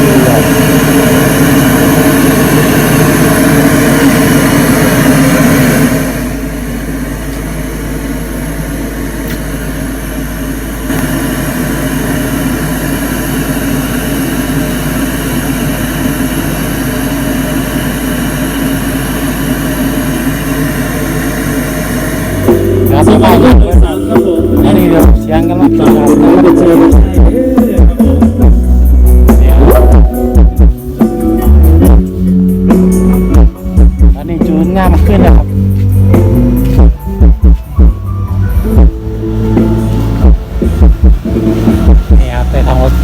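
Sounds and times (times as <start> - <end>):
hissing test noise from speakers: 0.0 - 43.0.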